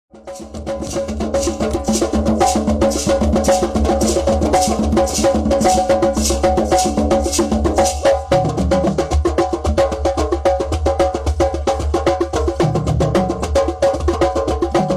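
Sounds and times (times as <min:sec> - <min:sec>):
hand drums playing: 0:00.1 - 0:14.9
lower-pitched drum part: 0:00.1 - 0:14.9.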